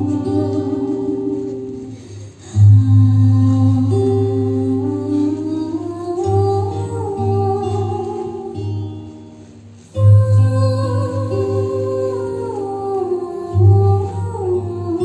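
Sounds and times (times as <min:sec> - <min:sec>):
sliding melody notes: 0:00.0 - 0:15.0.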